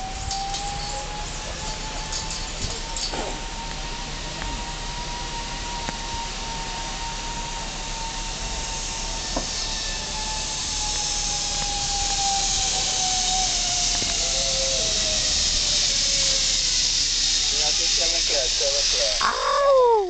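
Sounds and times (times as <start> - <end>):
hiss: 0.0 - 20.0
zip line pulleys whining on cable: 0.0 - 20.0.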